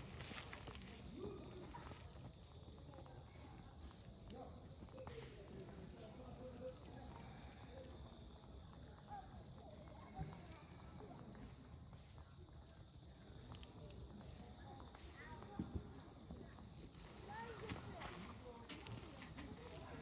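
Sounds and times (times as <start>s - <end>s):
burning wood popping: 0.0s - 20.0s
distant children's voices: 0.0s - 20.0s
faint campfire crackle: 0.0s - 20.0s.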